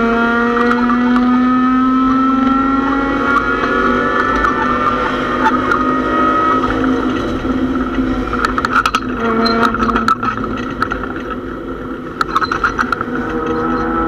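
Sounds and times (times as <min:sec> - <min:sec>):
car engine running hard: 0:00.0 - 0:14.0
sharp rattles and clicks: 0:02.1 - 0:14.0.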